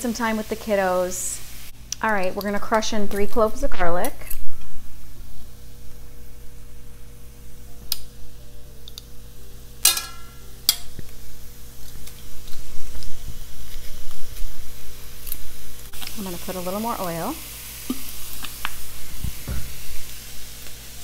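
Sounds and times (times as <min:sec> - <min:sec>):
onions sizzling in oil: 0:00.0 - 0:08.3, 0:09.2 - 0:21.0.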